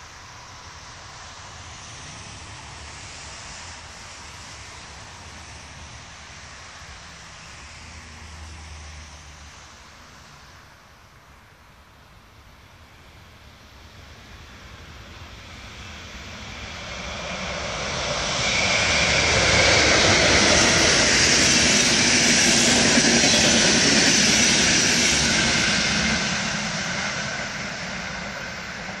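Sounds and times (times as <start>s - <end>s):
passenger train passing at speed: 0.0s - 29.0s.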